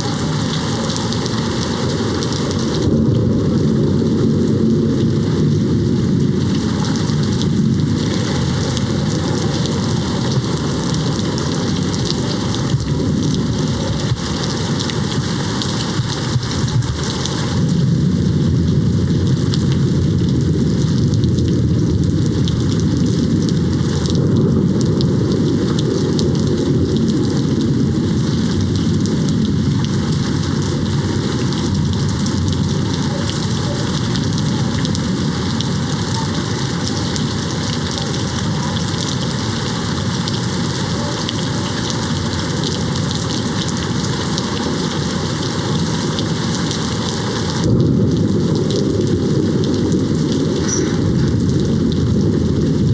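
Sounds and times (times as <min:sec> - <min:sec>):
rain beating on a window: 0:00.0 - 0:52.9.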